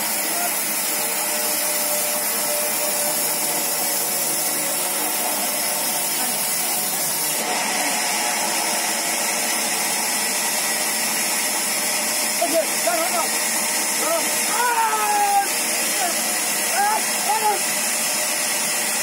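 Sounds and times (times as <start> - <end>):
band saw whirring: 0.0 - 19.0.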